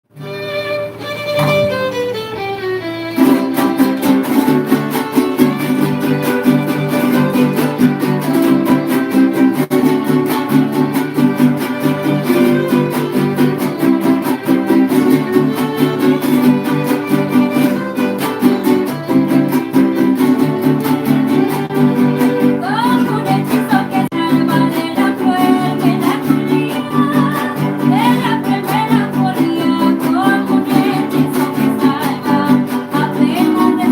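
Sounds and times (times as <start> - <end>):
strummed guitars: 0.1 - 33.9
violin slides: 0.1 - 33.9.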